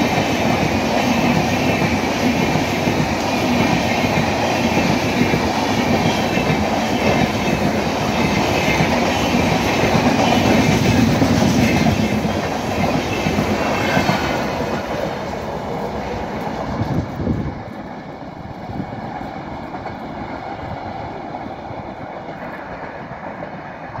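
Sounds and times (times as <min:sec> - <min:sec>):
train wheels clattering over rails: 0:00.0 - 0:24.0.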